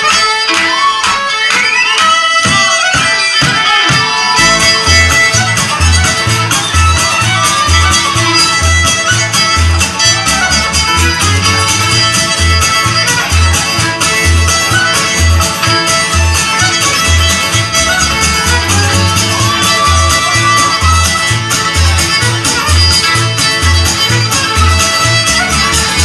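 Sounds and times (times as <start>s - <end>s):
fiddle: 0.0s - 26.0s
mandolin: 0.0s - 26.0s
strummed acoustic guitars: 2.4s - 26.0s
upright bass plucking: 4.4s - 26.0s.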